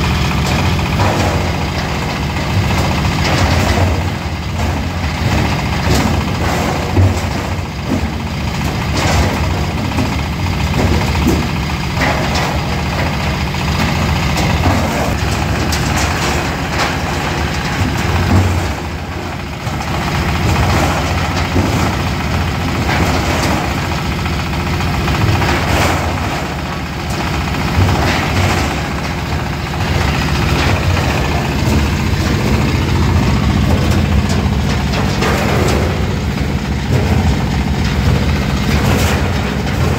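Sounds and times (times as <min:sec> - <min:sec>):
diesel engine running: 0:00.0 - 0:39.9
machine knocks and clatter: 0:00.0 - 0:39.9.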